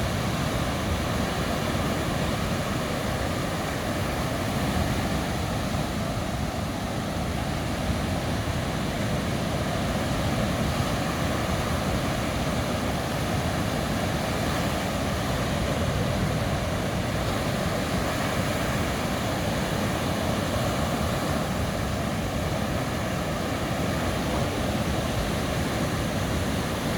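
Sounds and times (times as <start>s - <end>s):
sea waves washing on beach: 0.0s - 26.9s.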